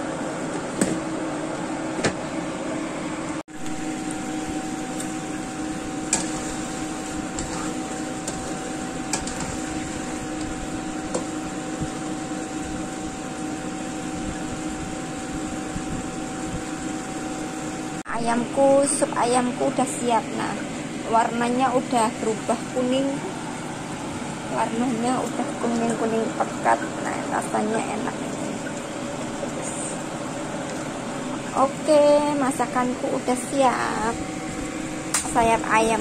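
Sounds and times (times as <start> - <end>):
kitchen appliance humming: 0.0 - 36.0.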